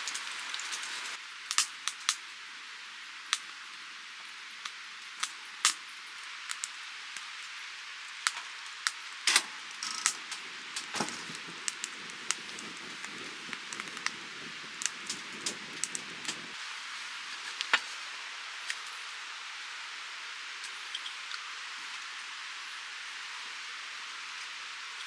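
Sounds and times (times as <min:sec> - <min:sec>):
wood fire crackling: 0:00.0 - 0:19.2, 0:20.2 - 0:25.0
steady hiss of fire: 0:00.0 - 0:25.0.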